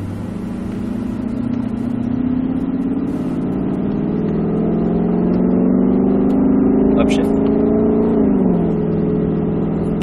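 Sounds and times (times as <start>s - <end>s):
car engine pulling away: 0.0s - 10.0s.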